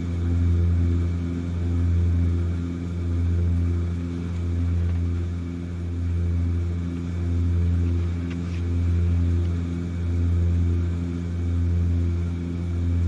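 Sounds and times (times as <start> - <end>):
turboprop engines droning in cabin: 0.0 - 13.0.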